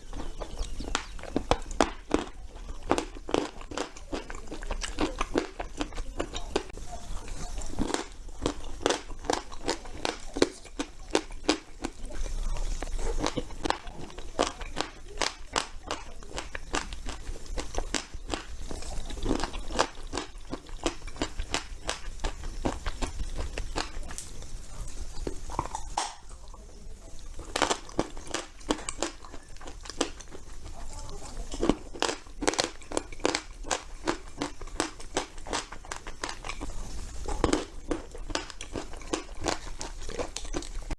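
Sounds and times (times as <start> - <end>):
crunchy chewing: 0.0 - 40.9.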